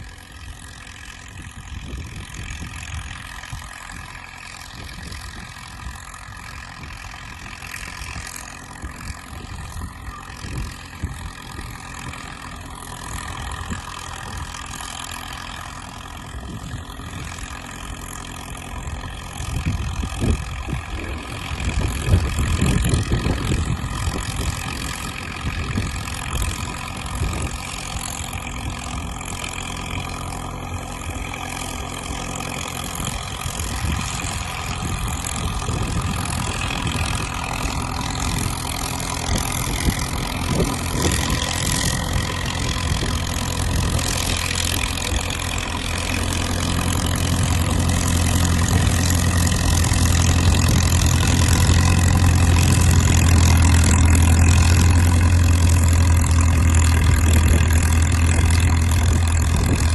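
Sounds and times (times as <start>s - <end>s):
crawler dozer diesel engine: 0.0s - 59.9s.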